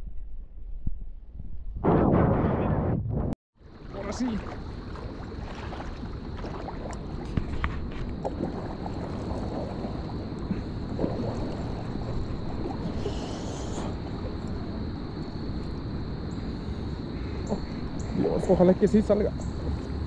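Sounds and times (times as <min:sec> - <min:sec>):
wind on microphone: 0:00.0 - 0:18.3.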